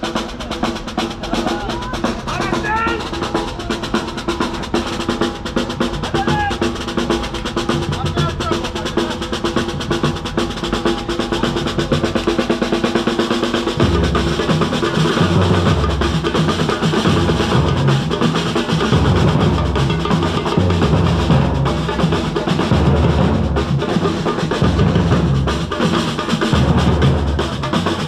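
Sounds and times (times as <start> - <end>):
bass drums: 0.0 - 28.0
snare drums: 0.0 - 28.0.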